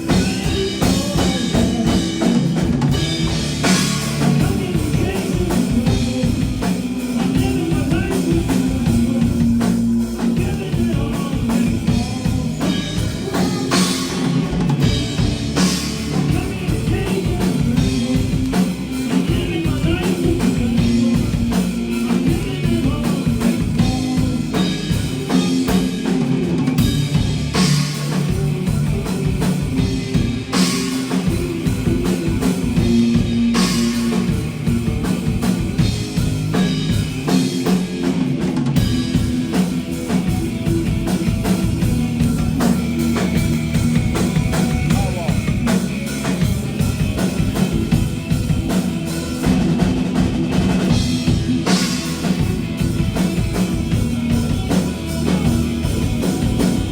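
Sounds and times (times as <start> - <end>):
drum beat: 0.0 - 56.9
live rock band playing: 0.0 - 56.9.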